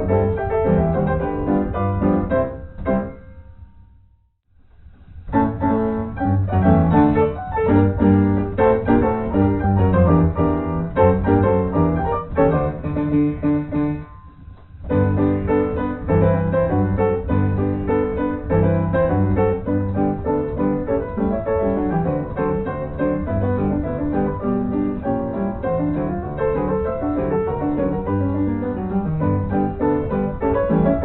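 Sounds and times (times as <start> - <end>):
piano music: 0.0 - 4.2, 5.2 - 31.0.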